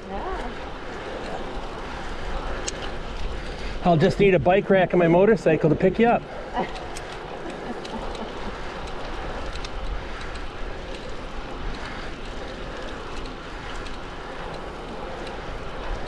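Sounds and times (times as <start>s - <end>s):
bike tyres rolling on asphalt: 0.0s - 16.0s.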